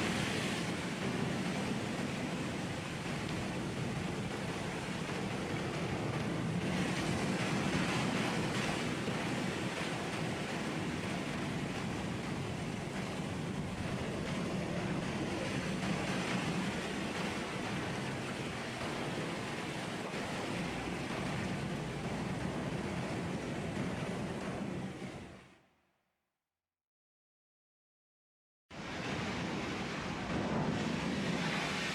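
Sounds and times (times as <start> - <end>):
waves washing on shore: 0.0 - 25.5, 28.8 - 31.9.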